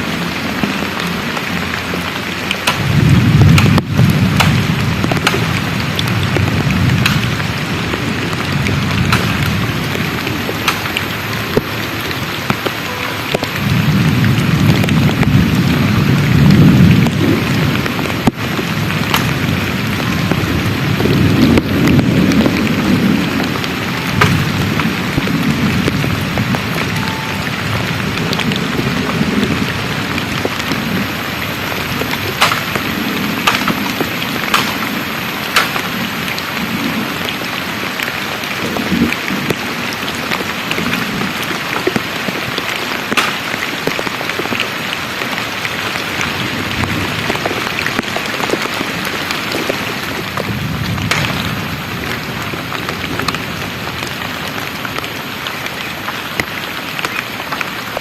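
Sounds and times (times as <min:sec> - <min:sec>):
low rumbles: 0:00.0 - 0:55.4
heavy rain pouring: 0:00.0 - 0:58.0.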